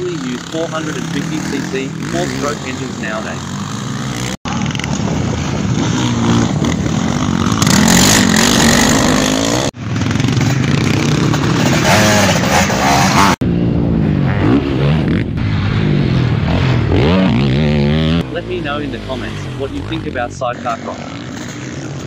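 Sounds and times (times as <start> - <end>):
off-road engines revving hard: 0.0 - 13.4, 14.1 - 22.0.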